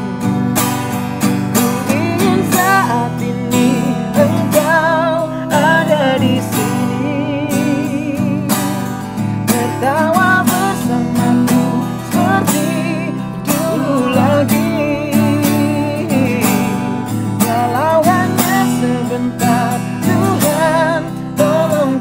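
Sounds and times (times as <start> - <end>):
strummed acoustic guitar: 0.0 - 22.0
person singing: 1.2 - 22.0.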